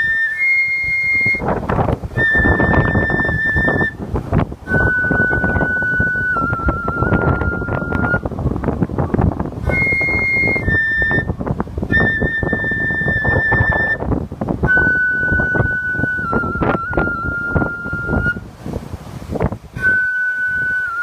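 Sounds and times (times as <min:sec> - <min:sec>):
whistle playing held notes: 0:00.0 - 0:01.5, 0:02.1 - 0:04.0, 0:04.7 - 0:08.3, 0:09.6 - 0:18.4, 0:19.8 - 0:21.0
wind buffeting microphone: 0:00.0 - 0:21.0.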